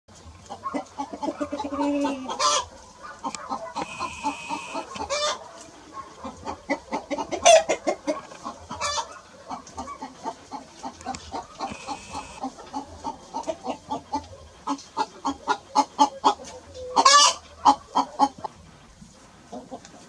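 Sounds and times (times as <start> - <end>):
chickens clucking: 0.1 - 20.0
chicken squawks: 0.5 - 18.5.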